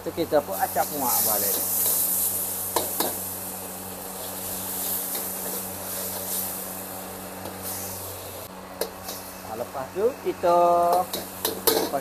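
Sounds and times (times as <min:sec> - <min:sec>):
sauce sizzling in wok: 0:00.2 - 0:12.0.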